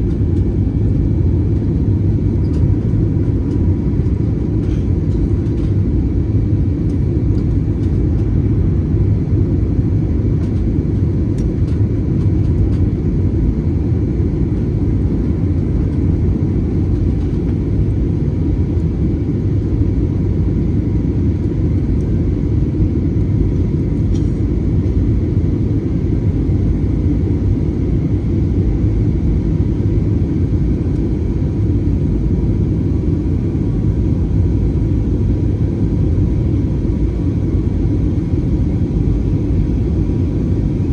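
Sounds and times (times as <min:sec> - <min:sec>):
jet engine cabin rumble: 0:00.0 - 0:40.9.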